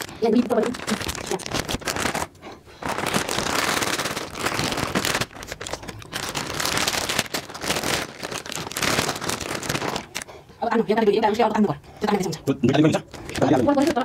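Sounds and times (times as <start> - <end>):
plastic snack packets crinkling: 0.0 - 10.4, 12.8 - 14.0.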